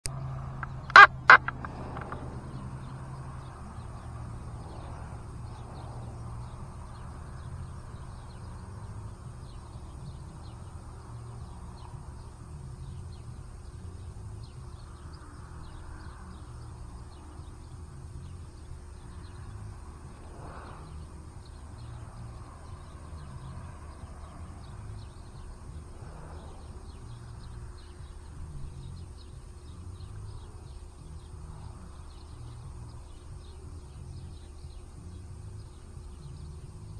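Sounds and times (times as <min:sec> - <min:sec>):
steady low rumble: 0:00.1 - 0:36.9.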